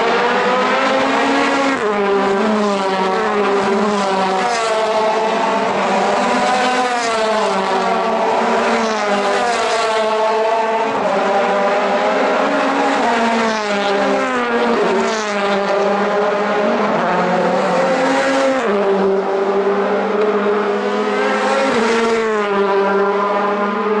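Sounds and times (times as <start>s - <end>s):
racing car engines: 0.0s - 24.0s.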